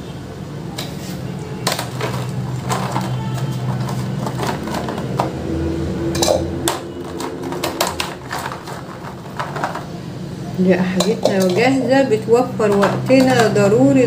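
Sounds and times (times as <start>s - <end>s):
kitchen utensils clicking: 0.7s - 10.0s, 10.7s - 14.0s.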